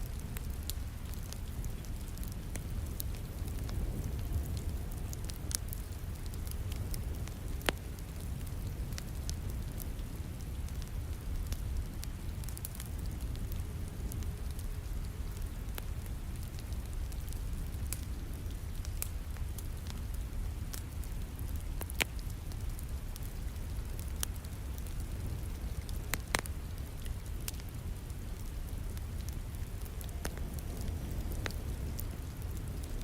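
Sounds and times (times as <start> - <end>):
falling rain: 0.0 - 33.0
wood fire crackling: 0.0 - 33.0.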